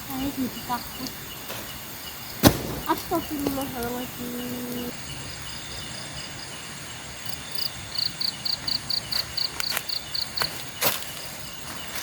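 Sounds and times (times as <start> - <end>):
cricket chirping: 0.0 - 12.0
insects trilling: 0.0 - 12.0.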